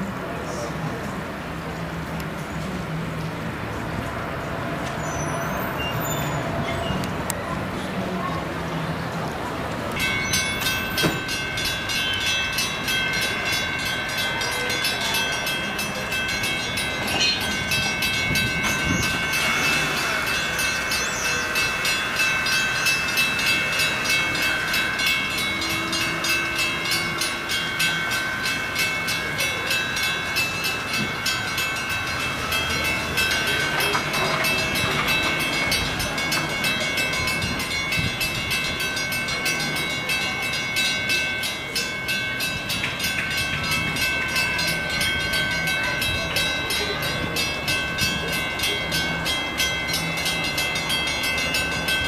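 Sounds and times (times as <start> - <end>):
train wheels clicking on rail joints: 9.0 - 52.0.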